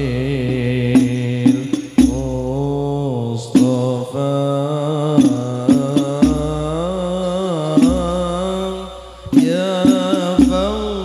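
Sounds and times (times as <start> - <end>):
man singing through a microphone: 0.0 - 11.0.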